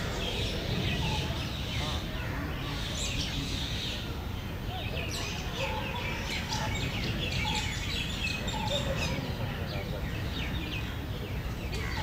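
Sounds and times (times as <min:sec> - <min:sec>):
small birds chirping and trilling: 0:00.0 - 0:12.0.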